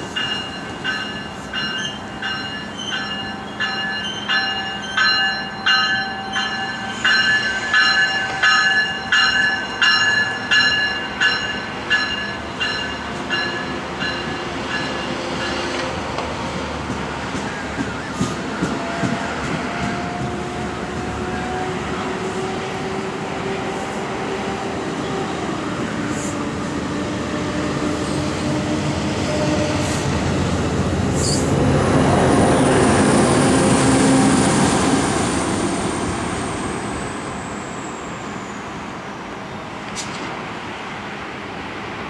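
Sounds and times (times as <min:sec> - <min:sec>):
train rumbling along rails: 0:00.0 - 0:42.0.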